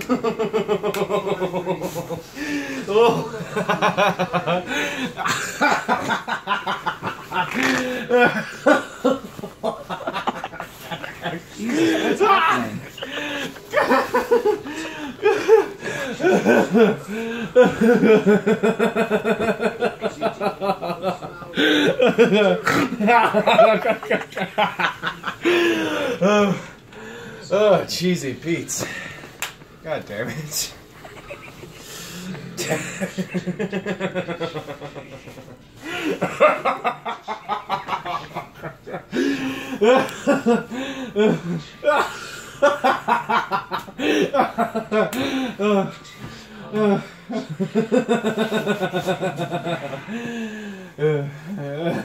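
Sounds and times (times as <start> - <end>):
man laughing: 0.0 - 26.6, 31.0 - 46.0.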